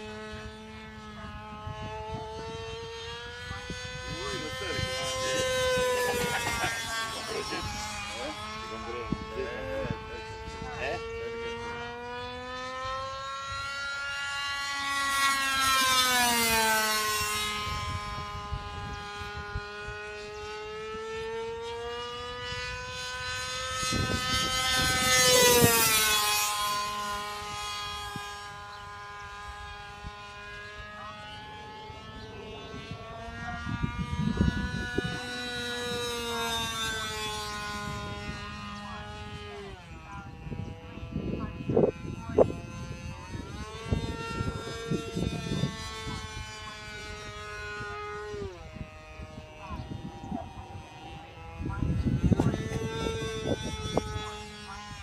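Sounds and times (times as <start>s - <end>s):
model airplane motor whine: 0.0s - 55.0s.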